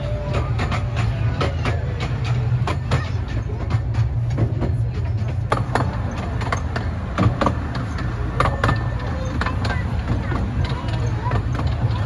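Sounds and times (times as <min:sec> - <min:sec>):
train low rumble: 0:00.0 - 0:12.0
wheels clicking over rail joints: 0:00.0 - 0:12.0.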